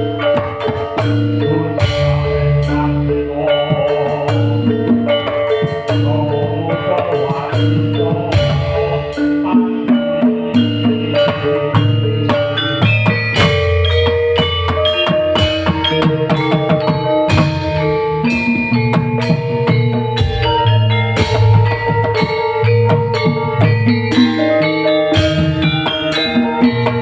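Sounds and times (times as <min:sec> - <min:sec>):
drums and percussion: 0:00.0 - 0:27.0
live band music: 0:00.0 - 0:27.0.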